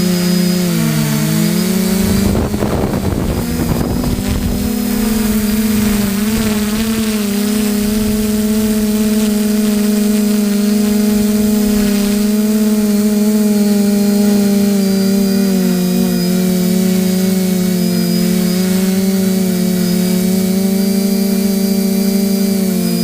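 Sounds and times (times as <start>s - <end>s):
small motors humming: 0.0s - 23.0s.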